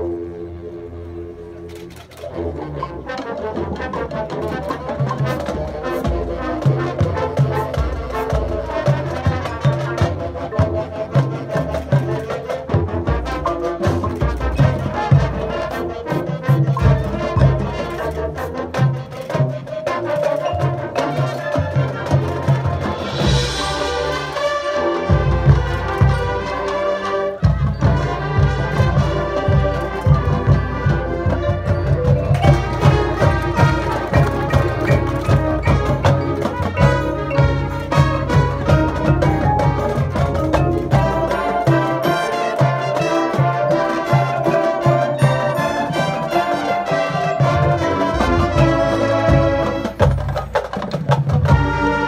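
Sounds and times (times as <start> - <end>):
marching band playing: 0.0 - 52.0.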